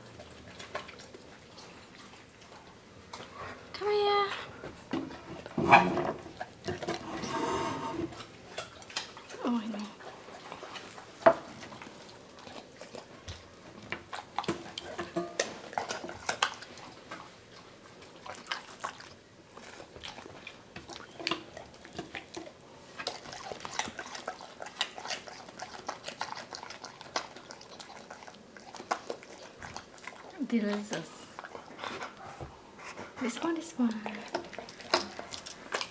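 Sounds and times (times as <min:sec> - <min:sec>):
dog chewing crunchy vegetables: 0:00.0 - 0:03.7, 0:04.6 - 0:07.4, 0:08.1 - 0:35.9.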